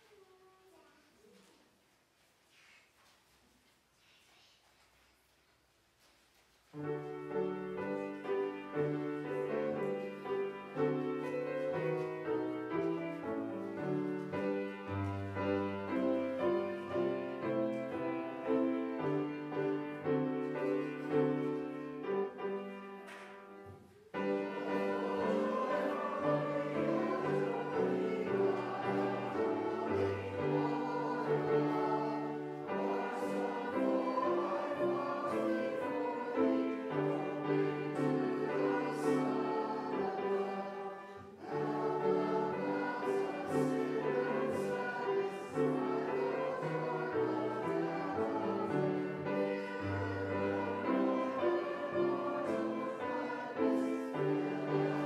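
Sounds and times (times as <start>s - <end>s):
congregation singing a hymn: 6.7s - 55.0s
piano accompaniment: 6.7s - 55.0s.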